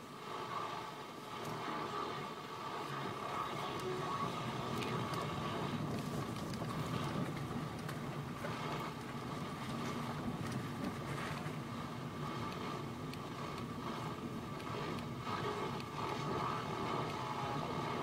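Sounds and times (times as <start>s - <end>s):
engine and road rumble: 0.0s - 18.0s
steady higher hum: 0.0s - 18.0s.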